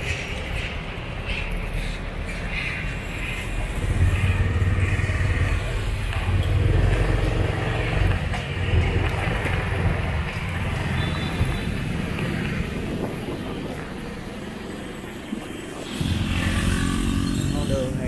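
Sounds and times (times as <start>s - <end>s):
motorbike and car traffic: 0.0s - 18.0s.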